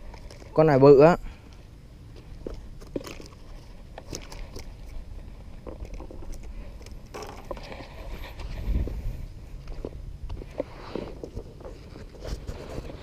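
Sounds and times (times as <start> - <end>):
handling clicks and rustles: 0.0 - 13.0
steady low rumble: 0.0 - 13.0.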